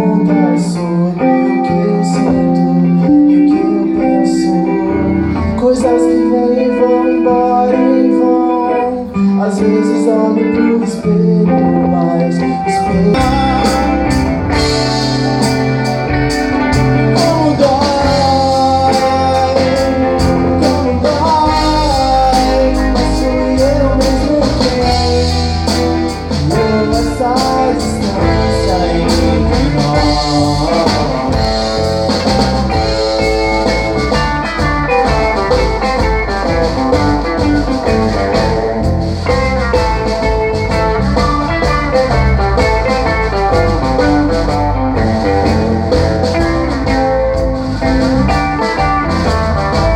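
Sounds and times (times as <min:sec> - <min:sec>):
bending lead guitar notes: 0:00.0 - 0:49.9
live rock band playing: 0:00.0 - 0:49.9.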